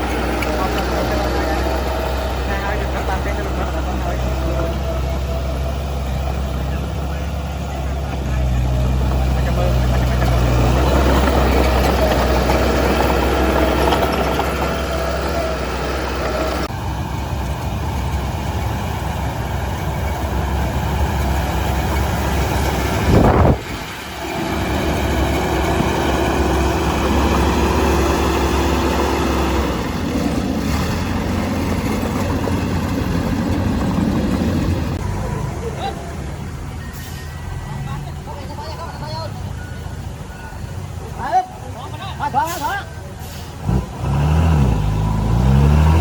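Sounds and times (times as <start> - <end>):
diesel engine running: 0.0 - 41.2.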